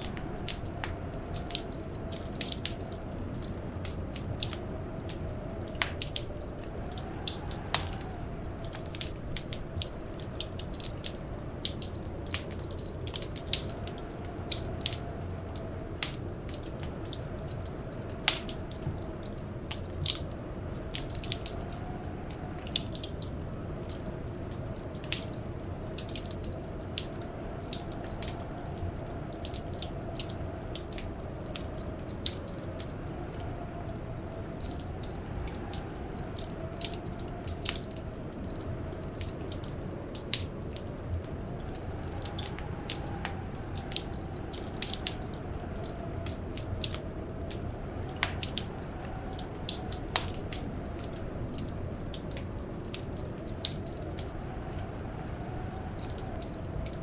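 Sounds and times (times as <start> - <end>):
blizzard wind whistling: 0.0 - 57.0
wood fire crackling: 0.0 - 57.0.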